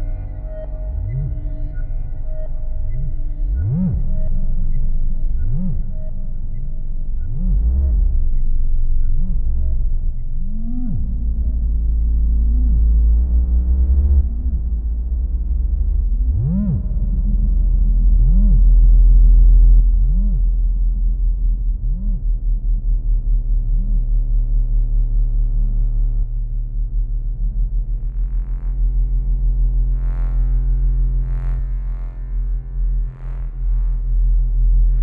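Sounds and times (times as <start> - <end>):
low synthesizer drone: 0.0 - 35.0.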